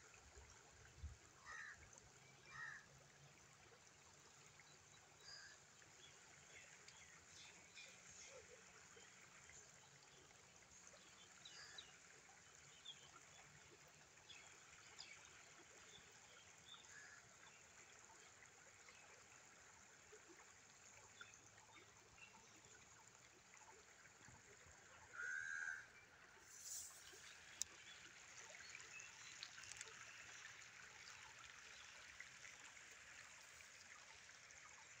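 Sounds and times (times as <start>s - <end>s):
stream trickling over stones: 0.0s - 35.0s.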